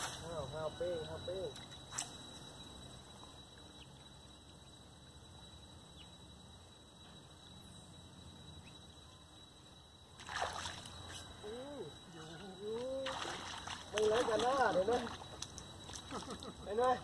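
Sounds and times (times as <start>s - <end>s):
thin steady high tone: 0.0s - 17.0s.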